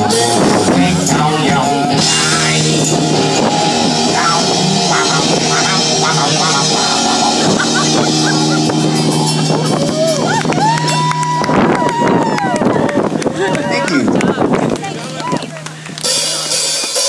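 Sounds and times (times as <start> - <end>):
drum kit: 0.0 - 12.4, 15.1 - 17.0
electric guitar: 0.0 - 17.0
live rock band playing: 0.0 - 17.0.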